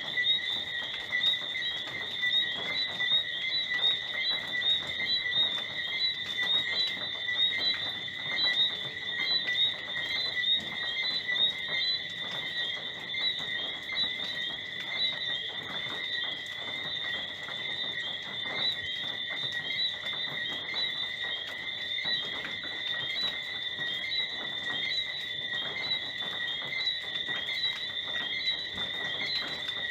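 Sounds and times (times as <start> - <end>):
crickets chirping: 0.0 - 29.9
frogs calling: 0.0 - 29.9.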